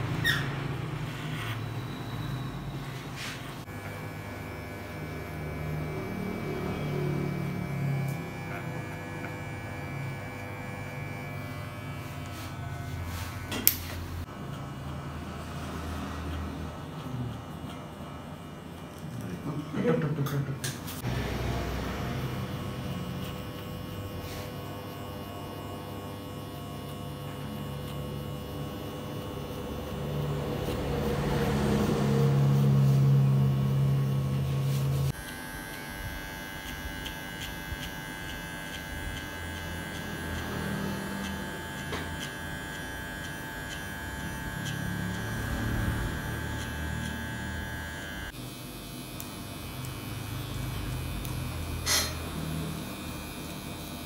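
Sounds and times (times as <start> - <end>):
electric hair clippers buzzing: 0.0 - 1.6, 3.2 - 54.0
high-pitched clipper hum: 0.0 - 54.0.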